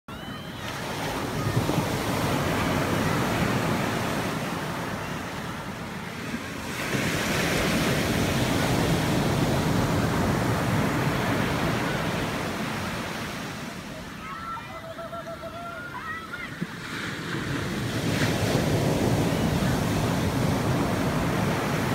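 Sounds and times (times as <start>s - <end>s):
ocean surf breaking on beach: 0.1s - 21.9s.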